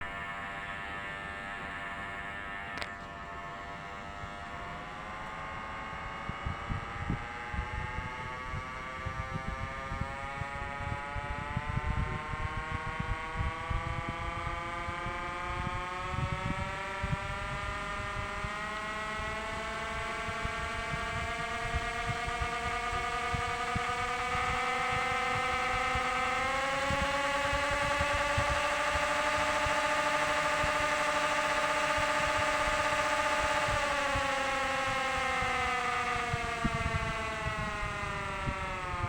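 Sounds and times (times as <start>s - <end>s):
electric motor whine: 0.0s - 39.0s.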